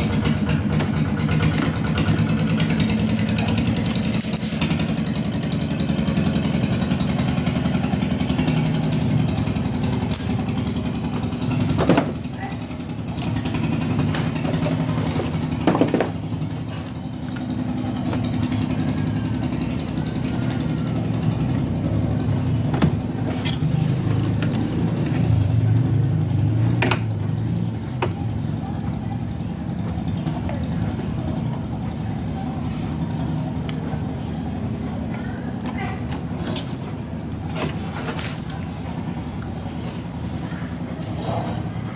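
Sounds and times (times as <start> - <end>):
traffic rumble: 0.0 - 41.9.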